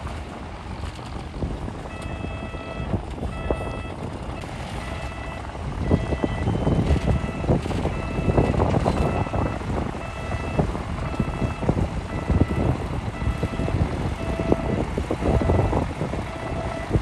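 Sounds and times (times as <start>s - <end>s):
diesel engine running: 0.0s - 17.0s
reversing alarm beeping: 1.9s - 17.0s.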